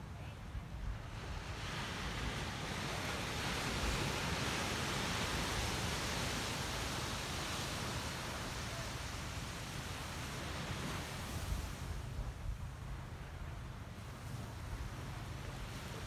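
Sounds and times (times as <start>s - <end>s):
waves washing onto sandy beach: 0.0s - 16.0s.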